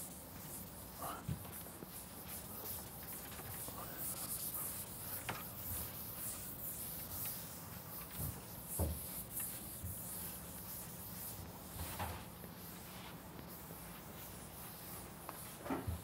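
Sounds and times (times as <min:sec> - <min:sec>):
room hiss: 0:00.0 - 0:16.0
rubbing and scratching of drawing: 0:00.0 - 0:16.0.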